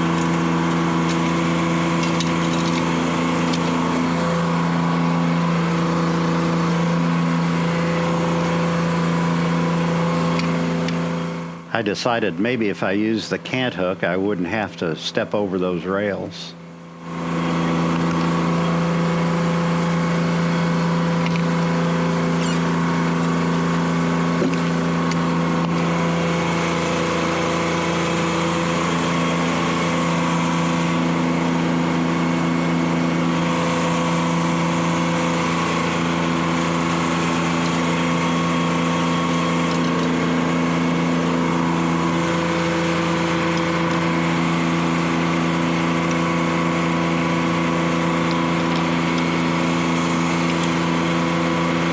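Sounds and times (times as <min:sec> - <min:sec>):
diesel engine running steadily: 0:00.0 - 0:51.9.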